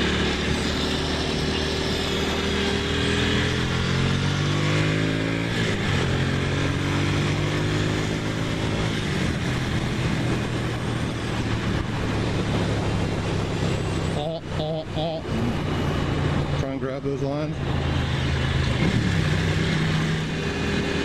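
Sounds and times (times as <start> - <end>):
motorcycle engine revving: 0.0 - 21.0
road and wind noise: 0.0 - 21.0.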